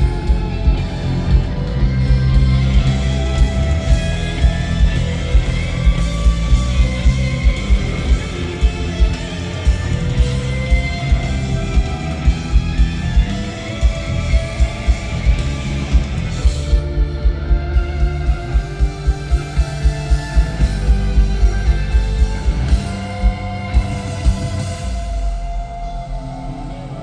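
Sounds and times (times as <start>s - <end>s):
electric guitar lines: 0.0s - 27.0s
rock band playing: 0.0s - 27.0s.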